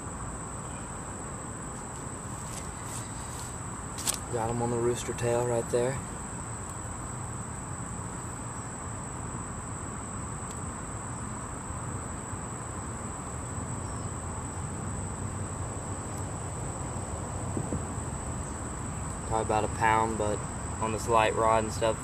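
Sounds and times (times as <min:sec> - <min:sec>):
insects droning: 0:00.0 - 0:22.0
low rumbling hiss: 0:00.0 - 0:22.0.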